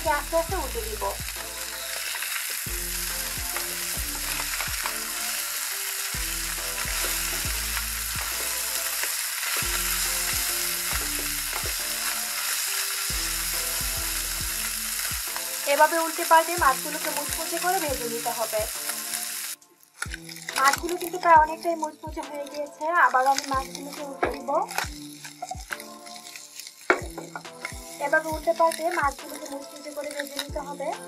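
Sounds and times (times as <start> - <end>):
fish sizzling in a pan: 0.0 - 31.0
spatula stirring in pan: 1.2 - 31.0.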